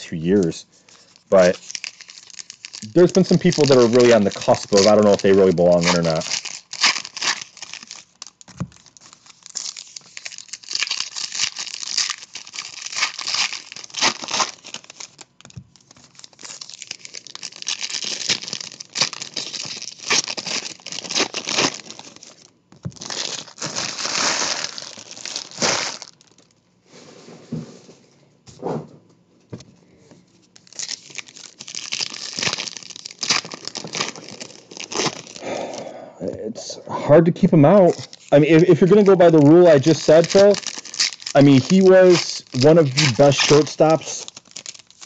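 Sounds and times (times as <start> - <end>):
card pack wrappers crinkling: 0.0 - 26.6, 30.4 - 35.9, 37.4 - 45.0.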